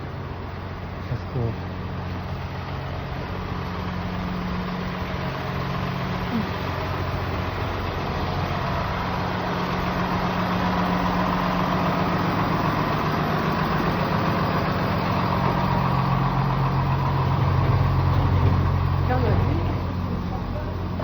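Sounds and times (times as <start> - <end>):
city street traffic: 0.0 - 21.0
vehicle engine running: 0.0 - 21.0.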